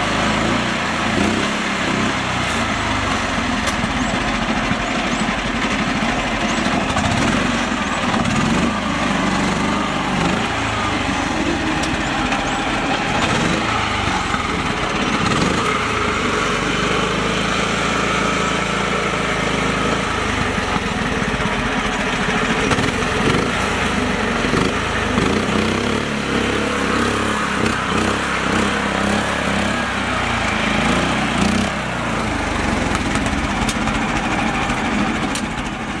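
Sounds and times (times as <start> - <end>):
small tractor engine running: 0.0 - 36.0.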